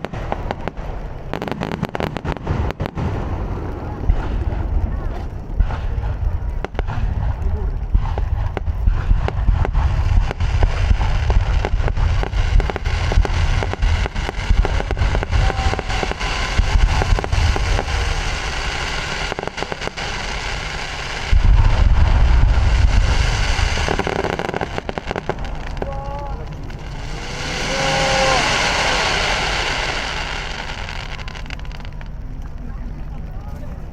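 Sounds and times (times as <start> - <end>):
fireworks crackling and booming: 0.0 - 33.9
crowd voices: 2.6 - 33.9.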